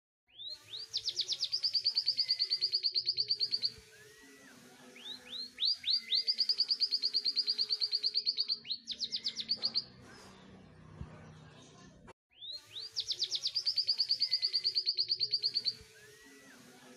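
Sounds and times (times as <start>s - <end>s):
canary singing trills: 0.3s - 10.0s, 12.3s - 16.5s.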